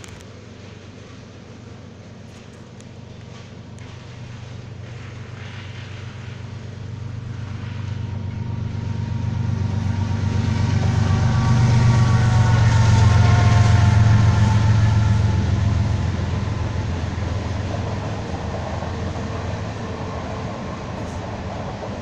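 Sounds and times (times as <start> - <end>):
diesel locomotive drone: 0.0 - 22.0.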